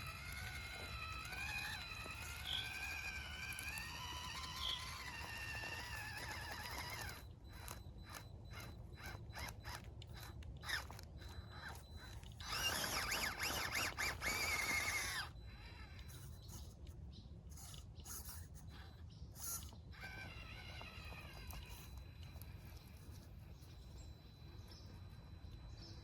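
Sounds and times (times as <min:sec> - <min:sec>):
toy car electric motor whining: 0:00.0 - 0:26.0.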